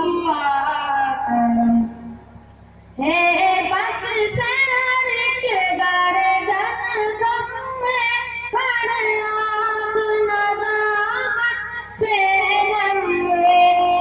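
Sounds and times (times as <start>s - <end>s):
boy singing into a microphone: 0.0s - 2.1s, 3.0s - 14.0s.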